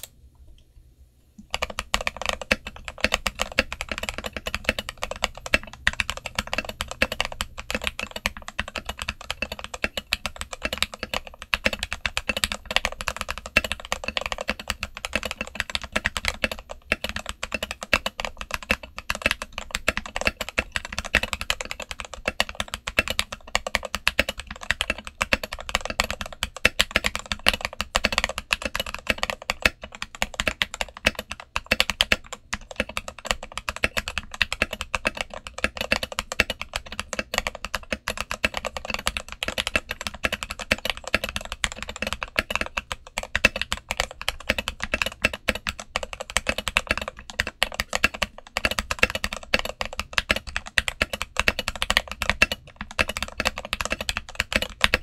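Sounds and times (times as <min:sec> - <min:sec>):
mechanical keyboard typing: 0:01.4 - 0:55.0.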